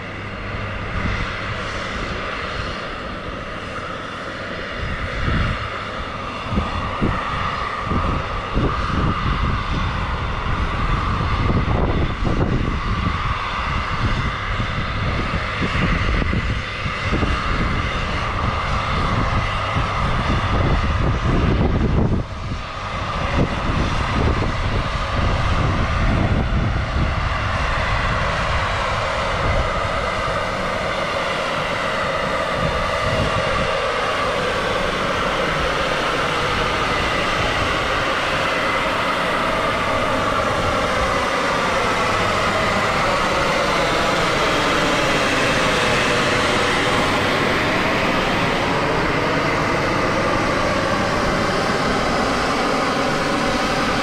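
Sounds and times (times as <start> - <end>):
power station machinery drone: 0.0 - 54.0.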